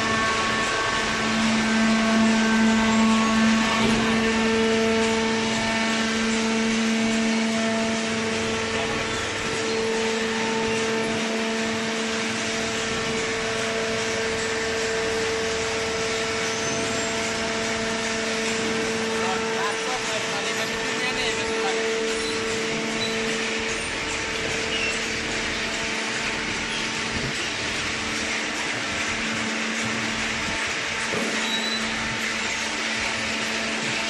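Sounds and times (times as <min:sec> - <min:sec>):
baler motor and pump running: 0:00.0 - 0:34.0.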